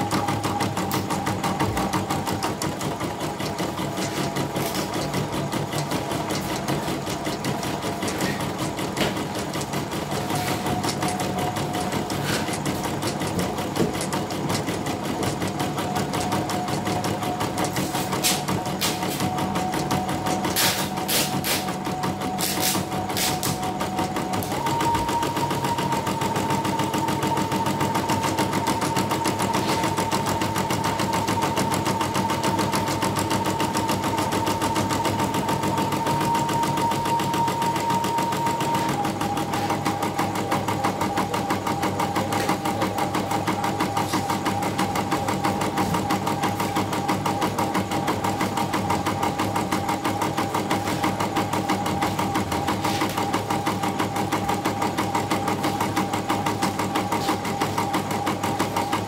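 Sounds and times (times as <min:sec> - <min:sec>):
embroidery machine stitching: 0:00.0 - 0:59.0.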